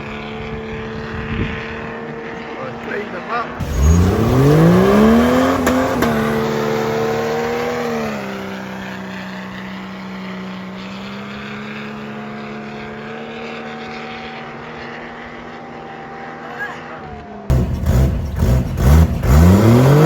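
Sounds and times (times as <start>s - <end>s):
vehicle engine at high revs: 0.0s - 20.0s.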